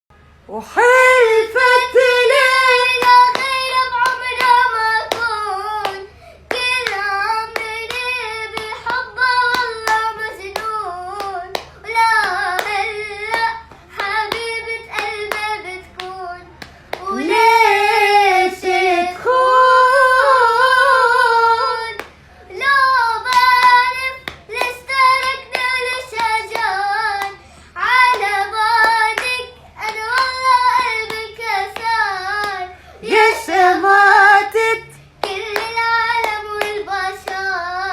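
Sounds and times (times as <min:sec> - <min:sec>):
girl singing: 0:00.5 - 0:37.9.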